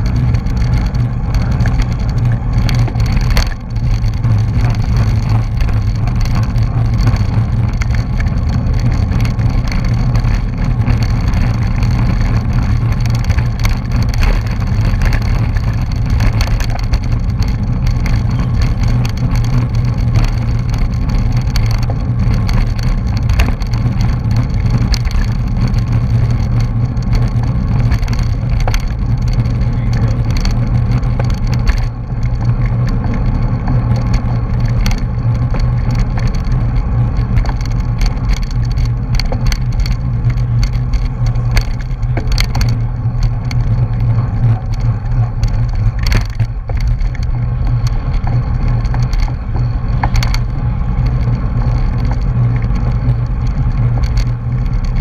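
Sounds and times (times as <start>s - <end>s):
bicycle rattles and clicks: 0.0s - 55.0s
low road rumble: 0.0s - 55.0s
wind rushing over microphone: 0.0s - 55.0s.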